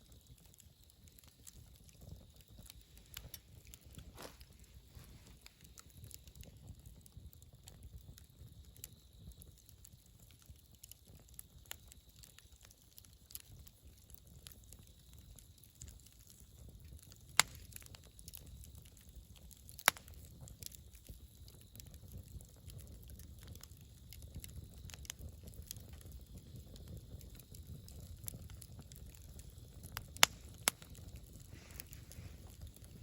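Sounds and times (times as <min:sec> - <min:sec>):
campfire flames rumbling: 0:00.0 - 0:33.0
fire crackling: 0:00.0 - 0:33.0.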